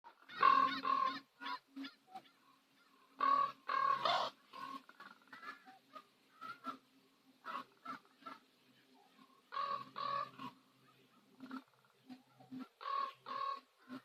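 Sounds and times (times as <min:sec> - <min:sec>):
ravens croaking: 0:00.1 - 0:14.0.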